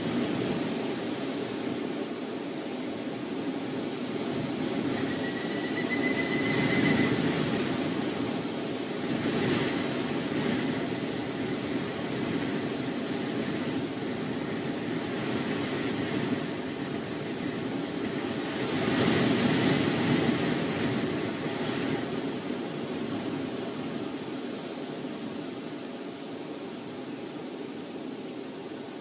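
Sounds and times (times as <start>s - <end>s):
wind rushing and gusting: 0.0s - 29.0s.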